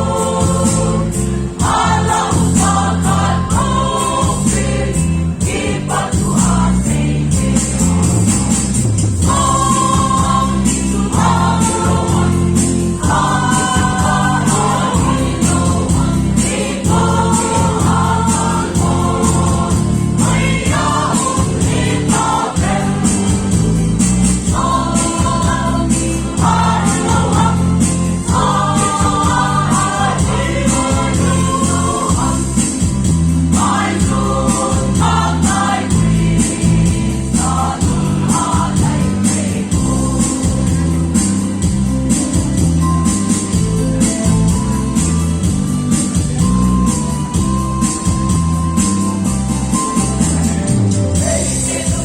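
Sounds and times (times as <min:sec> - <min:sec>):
voices singing gospel song: 0:00.0 - 0:41.8, 0:49.7 - 0:52.0
bass-heavy instrumental backing: 0:00.0 - 0:52.0.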